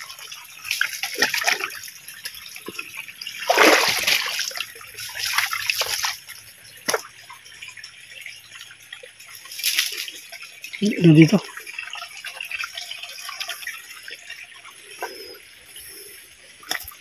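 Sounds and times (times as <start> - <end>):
water splashing in rocky creek: 0.0 - 15.4, 16.4 - 17.0.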